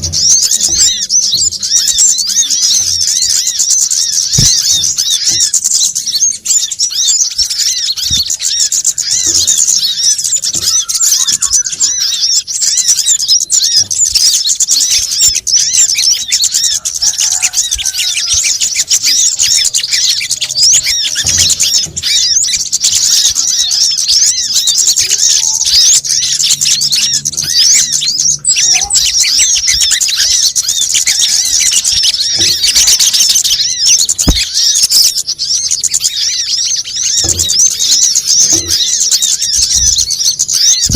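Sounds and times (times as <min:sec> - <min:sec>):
many birds chirping and twittering: 0:00.0 - 0:40.9.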